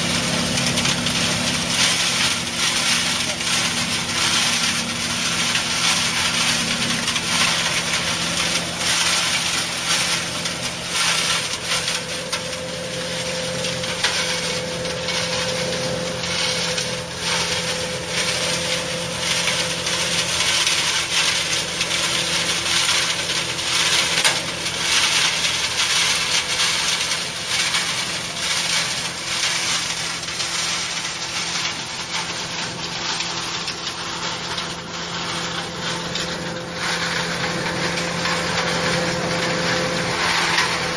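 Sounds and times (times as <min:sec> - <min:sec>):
crackling of chopped grass: 0:00.0 - 0:40.9.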